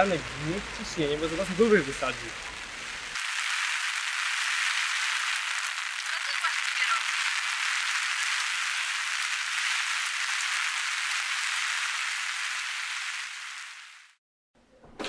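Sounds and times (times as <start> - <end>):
steady hiss: 0.0 - 14.2.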